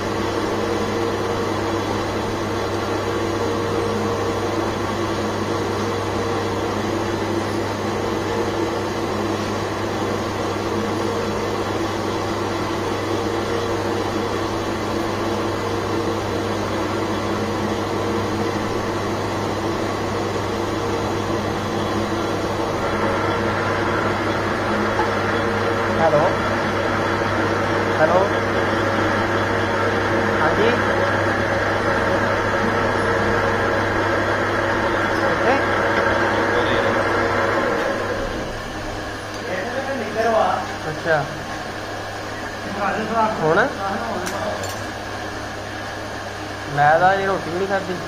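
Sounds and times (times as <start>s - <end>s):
lathe motor humming: 0.0s - 48.0s.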